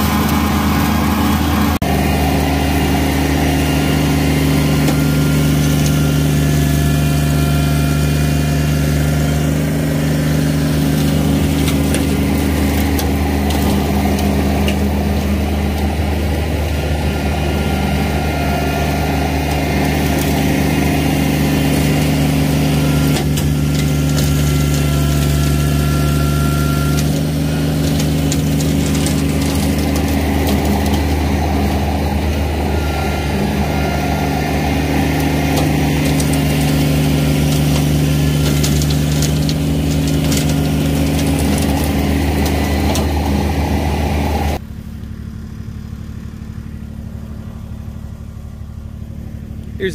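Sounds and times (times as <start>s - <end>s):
diesel tractor engine running: 0.0s - 49.9s.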